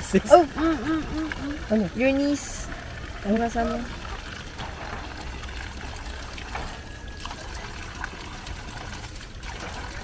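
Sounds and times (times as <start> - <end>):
low steady rumble: 0.0 - 10.0
water trickling: 0.0 - 10.0.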